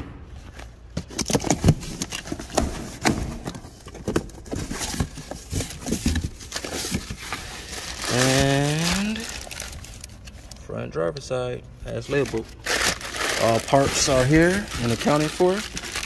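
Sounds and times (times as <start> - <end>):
cardboard boxes being handled: 0.4 - 10.4, 12.1 - 16.0.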